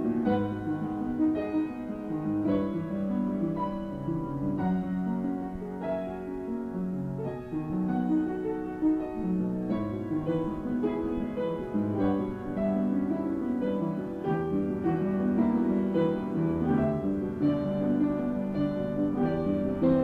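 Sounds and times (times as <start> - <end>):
solo piano piece: 0.0 - 20.0.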